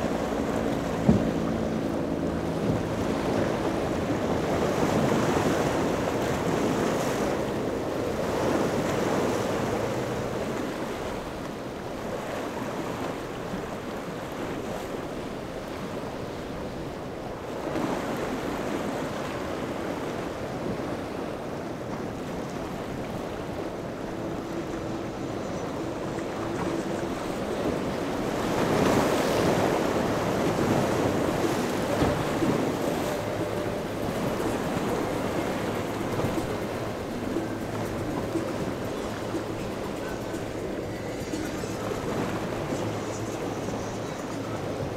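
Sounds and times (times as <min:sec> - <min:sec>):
faint boat engine drone: 0:00.0 - 0:44.9
waves surging and breaking: 0:00.0 - 0:44.9
wind gusting across microphone: 0:00.0 - 0:44.9.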